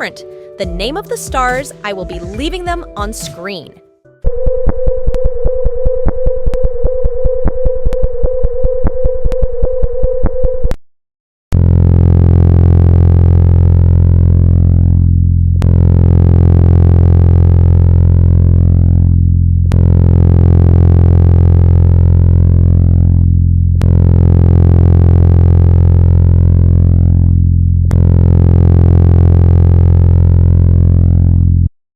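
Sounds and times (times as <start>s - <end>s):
deep synthetic drone: 4.2s - 10.8s, 11.5s - 31.7s
rapidly pulsing tone: 4.3s - 10.8s, 11.6s - 31.7s.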